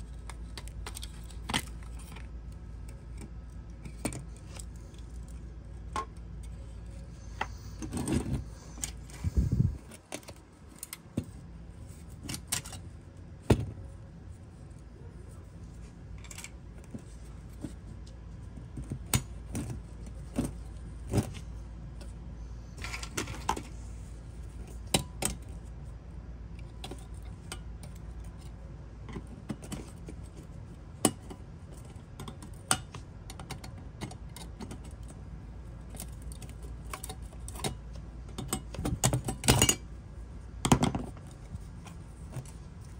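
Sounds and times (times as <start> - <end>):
light clicks and knocks of metal parts: 0.0 - 42.9
steady low hum: 0.0 - 42.9.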